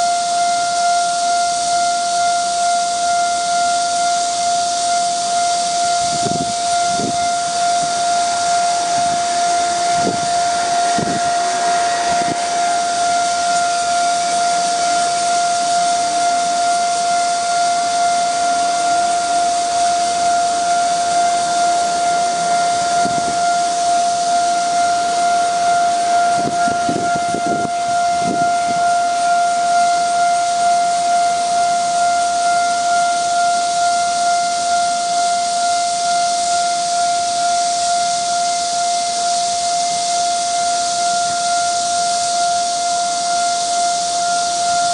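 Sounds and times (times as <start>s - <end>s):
level crossing alarm tone: 0.0s - 44.9s.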